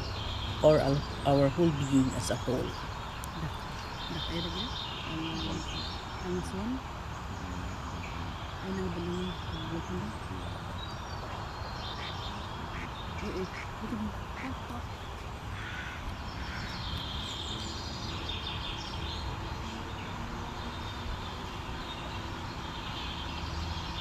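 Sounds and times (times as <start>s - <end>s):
outdoor background noise: 0.0s - 24.0s
wild birds chirping: 0.0s - 24.0s.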